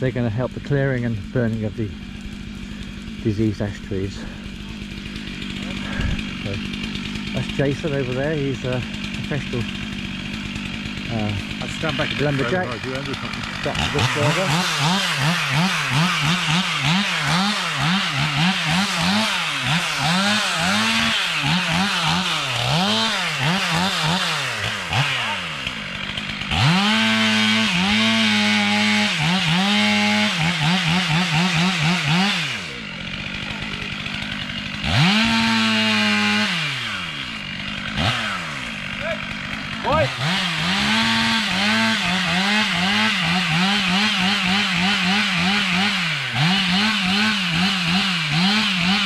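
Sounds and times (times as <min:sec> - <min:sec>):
chainsaw engine revving: 0:00.0 - 0:49.0.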